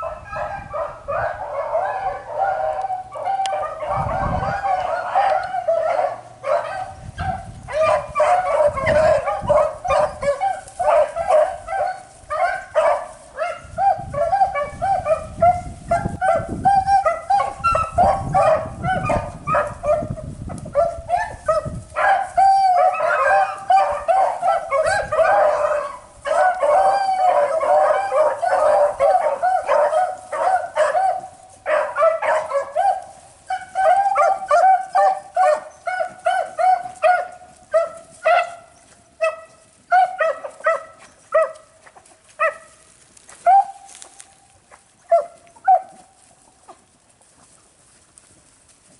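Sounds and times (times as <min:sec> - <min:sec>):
hounds baying: 0:00.0 - 0:46.8.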